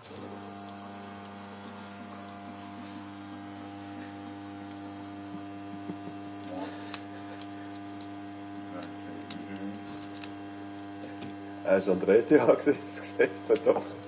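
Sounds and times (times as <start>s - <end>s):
electrical appliance hum: 0.0s - 14.0s.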